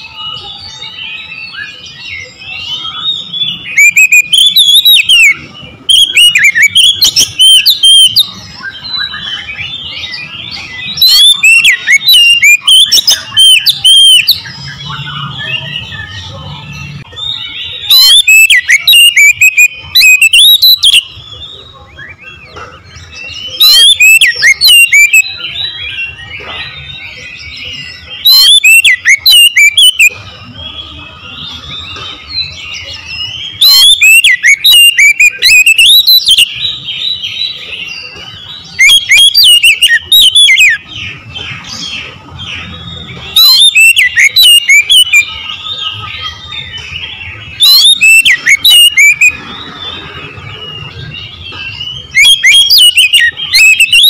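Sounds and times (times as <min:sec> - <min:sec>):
bird warbling: 0:00.0 - 0:21.1, 0:22.7 - 0:54.0
magpie-robin singing: 0:00.0 - 0:54.0.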